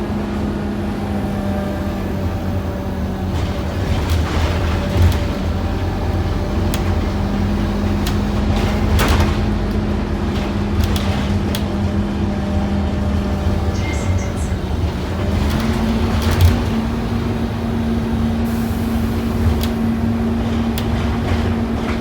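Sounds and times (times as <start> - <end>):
bus diesel engine drone: 0.0 - 22.0.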